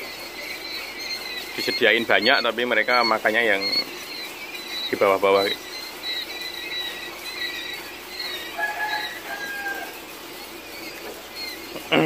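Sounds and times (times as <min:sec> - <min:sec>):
quail chicks peeping: 0:00.0 - 0:12.0.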